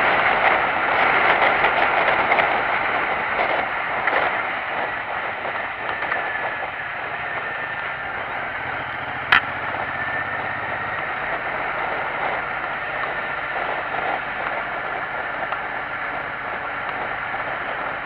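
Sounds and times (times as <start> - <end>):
motorcycle engine hum: 0.0 - 18.0
wind and road noise: 0.0 - 18.0.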